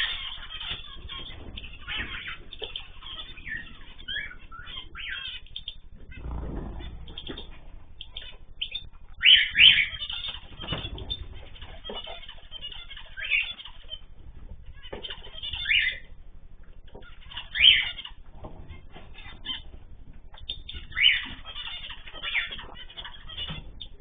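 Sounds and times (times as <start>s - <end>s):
loud sharp bird calls: 0.0s - 24.0s
small birds chirping: 0.0s - 24.0s
wings fluttering: 0.0s - 24.0s.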